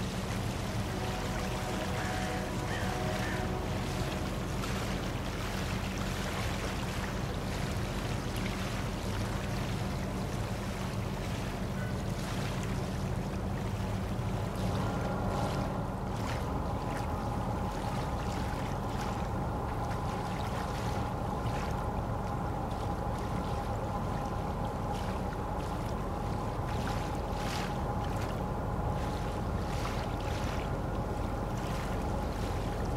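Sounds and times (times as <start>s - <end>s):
boat engines droning: 0.0s - 32.9s.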